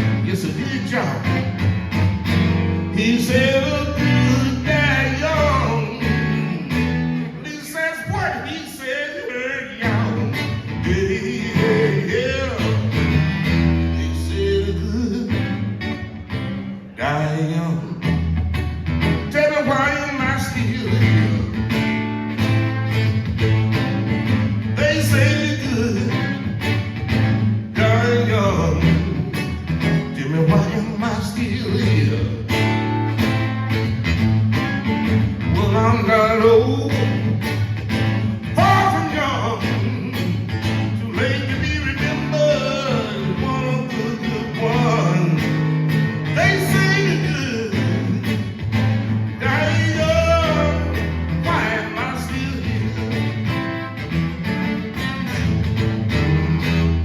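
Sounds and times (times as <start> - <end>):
bass line: 0.0 - 8.3, 9.7 - 57.0
lead guitar bending notes: 0.0 - 57.0
live blues band playing: 0.0 - 57.0.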